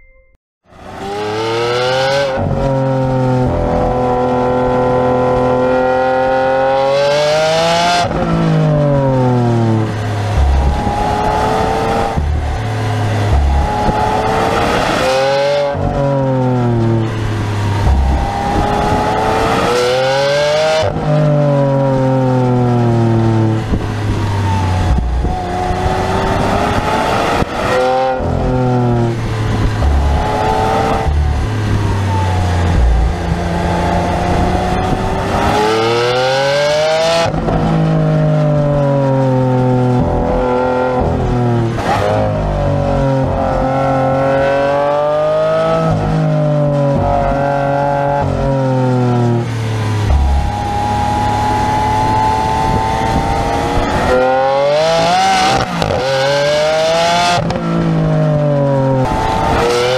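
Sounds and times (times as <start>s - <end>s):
car engine accelerating hard: 0.8s - 59.9s.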